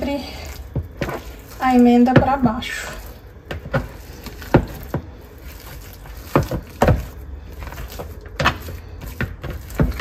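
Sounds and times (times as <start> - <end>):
soft thuds and slaps of dough: 0.5 - 10.0.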